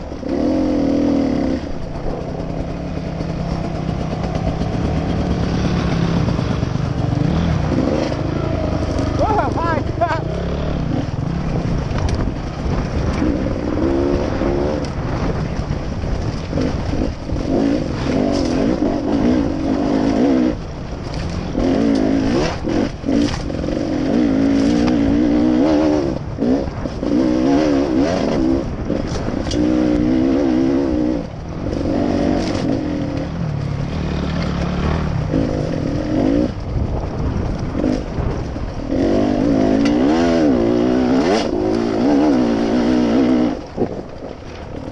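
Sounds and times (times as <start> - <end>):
small vehicle engine running: 0.0 - 44.9.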